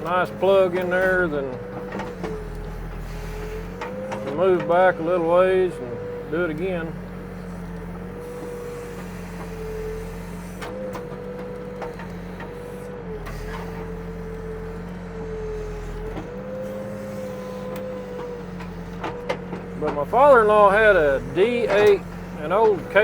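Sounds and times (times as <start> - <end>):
diesel engine running: 0.0 - 23.0
hydraulic whine: 0.0 - 23.0.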